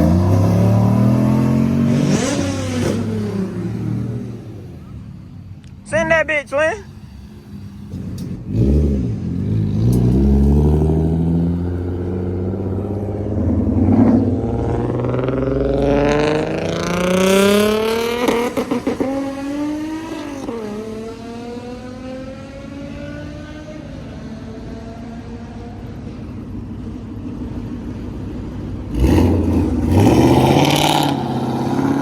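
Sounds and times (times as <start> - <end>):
car engine accelerating: 0.0 - 5.5, 6.8 - 32.0.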